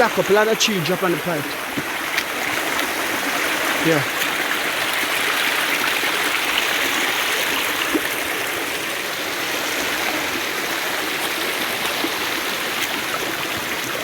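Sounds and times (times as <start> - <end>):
stream babbling over rocks: 0.0 - 14.0.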